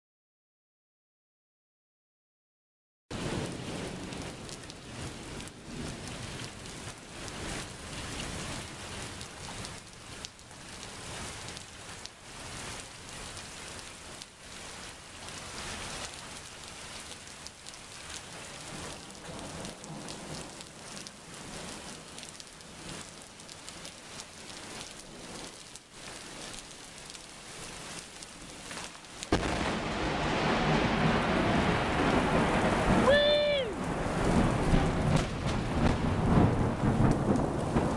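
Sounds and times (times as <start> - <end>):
heavy rain falling: 3.1 - 37.9.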